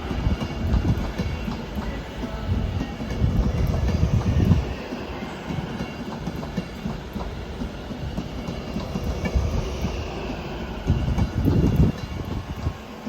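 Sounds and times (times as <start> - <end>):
train knocks: 0.0 - 13.0
train wheels rumbling on rails: 0.0 - 13.0.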